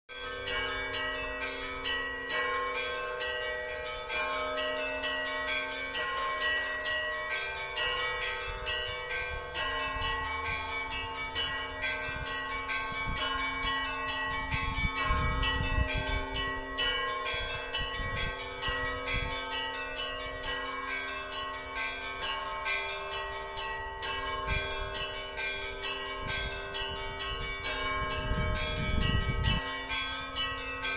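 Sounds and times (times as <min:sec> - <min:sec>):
church bells pealing: 0:00.1 - 0:30.9.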